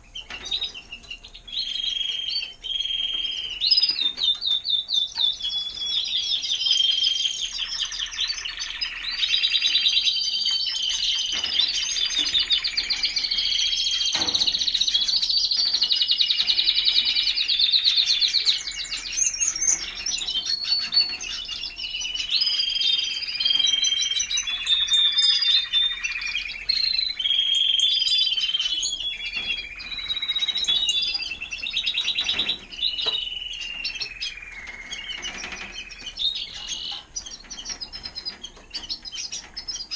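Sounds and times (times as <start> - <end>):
canaries singing: 0.0 - 39.9.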